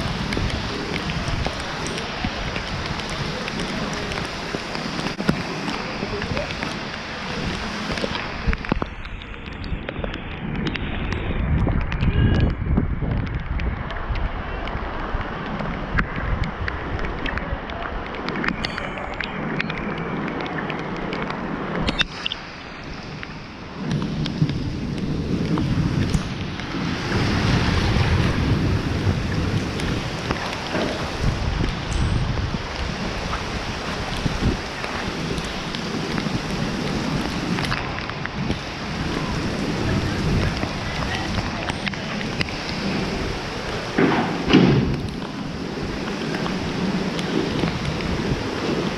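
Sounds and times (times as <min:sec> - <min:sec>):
raindrops ticking near microphone: 0:00.0 - 0:48.9
steady rain falling: 0:00.0 - 0:48.9
wind noise on microphone: 0:00.0 - 0:48.9.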